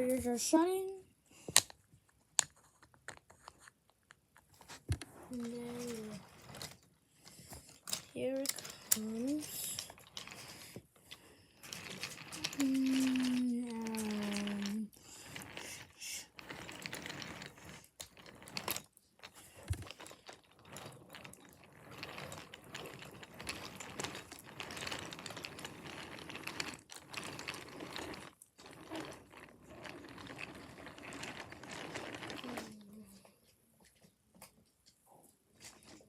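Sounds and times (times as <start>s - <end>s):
wooden toy trains rattling on track: 4.5s - 33.3s, 35.6s - 36.0s.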